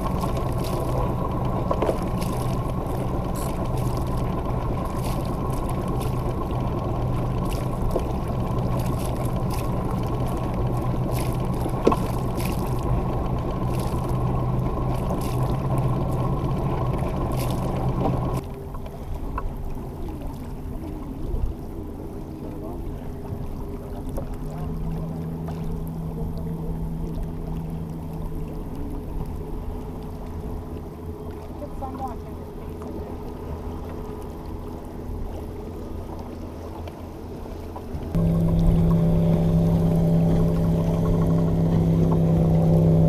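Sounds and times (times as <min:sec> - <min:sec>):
water along a boat hull: 0:00.0 - 0:43.0.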